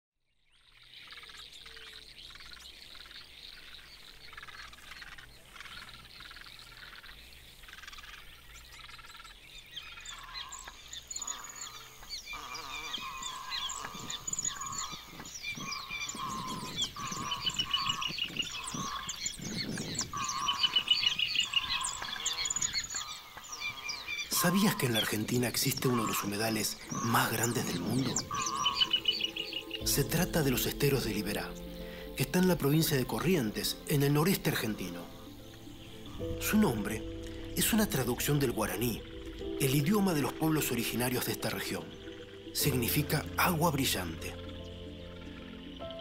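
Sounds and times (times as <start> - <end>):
waterbirds calling: 0.5 - 46.0
frogs chorusing: 0.6 - 46.0.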